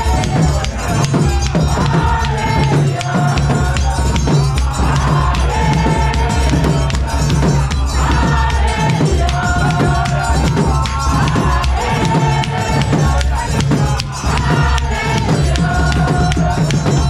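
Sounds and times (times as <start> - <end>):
deep bass and drums beat: 0.0 - 17.0
sharp percussion hits: 0.0 - 17.0
voices singing: 0.0 - 17.0.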